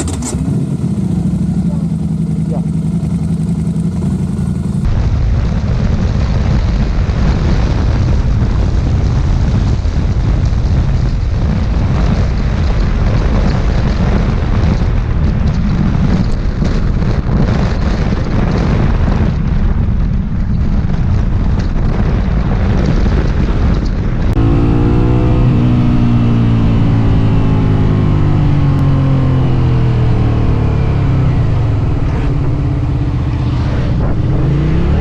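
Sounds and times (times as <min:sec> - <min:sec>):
road noise: 0:00.0 - 0:35.0
rushing wind: 0:00.0 - 0:35.0
vehicle engine running: 0:00.0 - 0:35.0.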